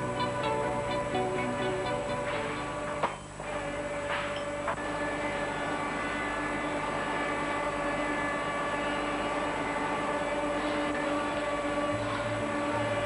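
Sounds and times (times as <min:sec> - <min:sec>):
sawmill machinery droning: 0:00.0 - 0:13.0.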